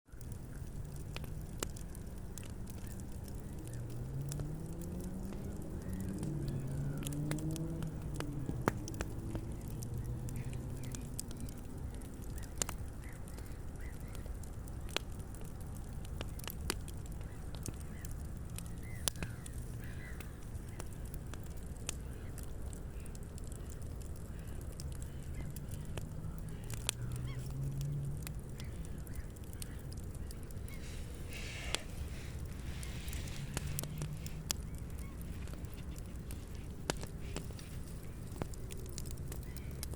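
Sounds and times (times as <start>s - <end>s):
campfire crackling: 0.1s - 39.9s
sharp fire pops: 0.1s - 39.9s.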